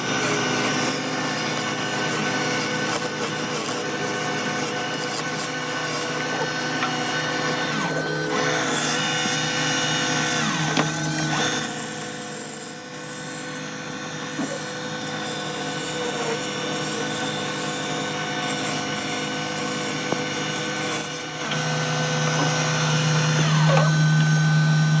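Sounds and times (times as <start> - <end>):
woodworking power tools humming: 0.0 - 25.0.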